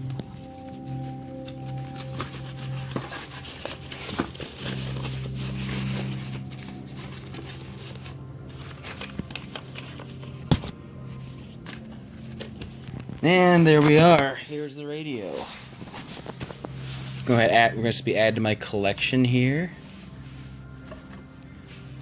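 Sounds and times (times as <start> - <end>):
plastic and cardboard crinkling: 0.0 - 18.4, 19.5 - 22.0
steady low hum: 0.0 - 22.0.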